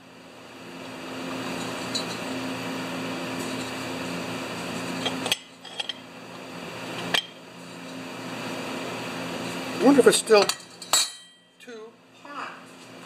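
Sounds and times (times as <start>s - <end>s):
machine humming and hissing: 0.0s - 10.9s.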